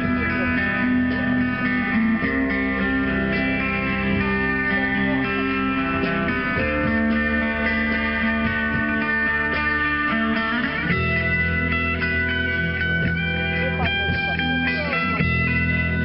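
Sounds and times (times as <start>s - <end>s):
live rock band: 0.0s - 16.0s.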